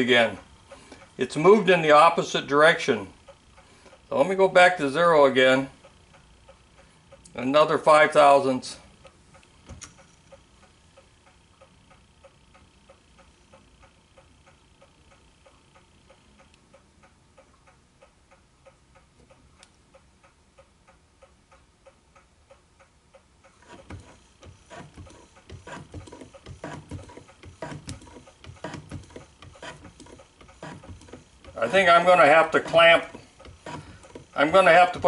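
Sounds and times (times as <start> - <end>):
faint regular ticking: 0.0 - 35.0.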